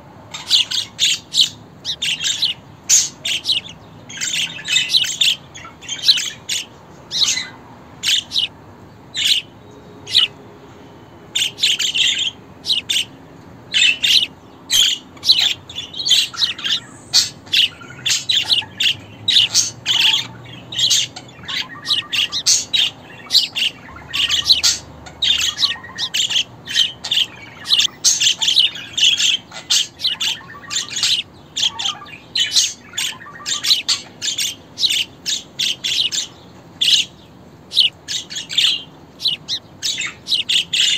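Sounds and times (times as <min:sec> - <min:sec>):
budgerigars chirping: 0:00.3 - 0:10.4, 0:11.3 - 0:40.9.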